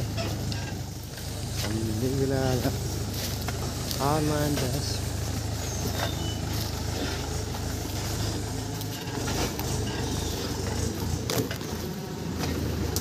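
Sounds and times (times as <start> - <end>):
tractor engine rumbling: 0.0 - 13.0.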